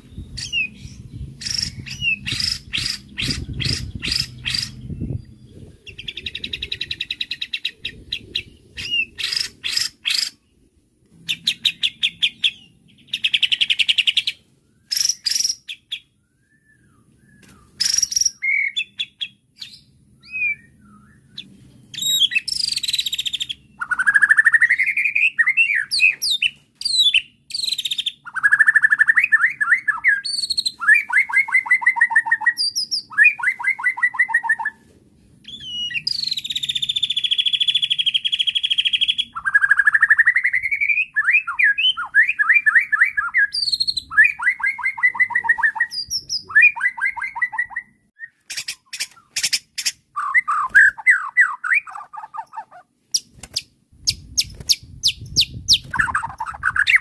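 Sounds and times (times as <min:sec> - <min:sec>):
songbird singing varied song: 0:00.0 - 0:34.8, 0:35.4 - 0:57.0.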